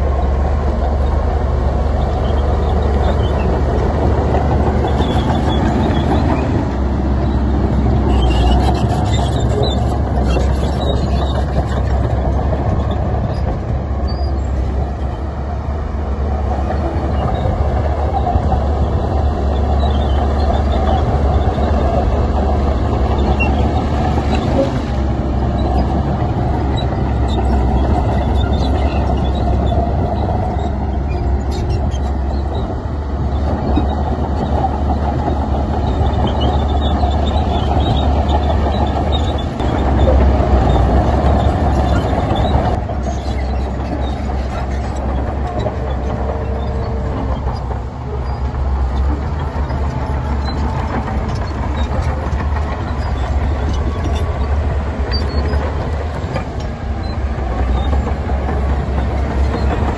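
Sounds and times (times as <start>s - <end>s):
heavy diesel machinery rumble: 0.0s - 59.9s.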